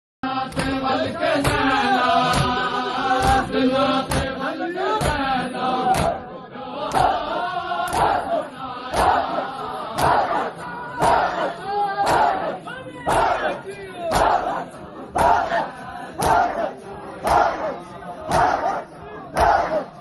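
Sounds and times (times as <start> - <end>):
men chanting in unison: 0.2 - 20.0.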